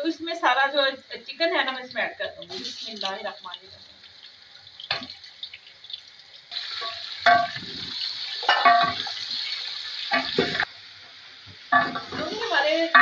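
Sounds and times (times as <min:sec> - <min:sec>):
chicken sizzling in oil: 0:00.8 - 0:13.0.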